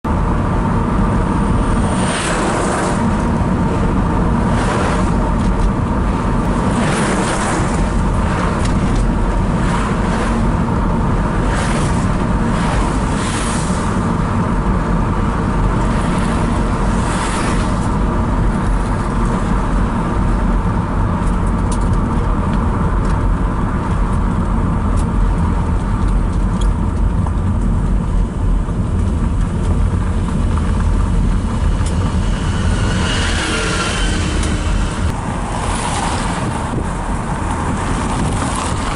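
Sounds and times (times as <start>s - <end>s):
road and tyre noise: 0.0s - 38.9s
passing vehicles whooshing: 0.1s - 26.0s, 28.0s - 38.9s.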